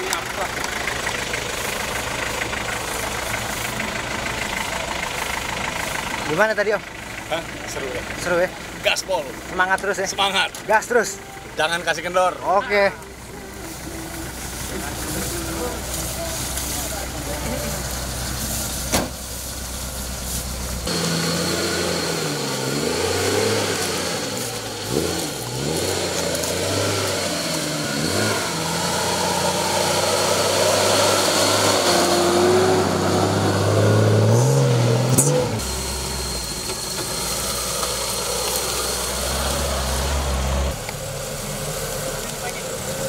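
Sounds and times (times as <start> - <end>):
engine revving and idling: 0.0 - 43.0.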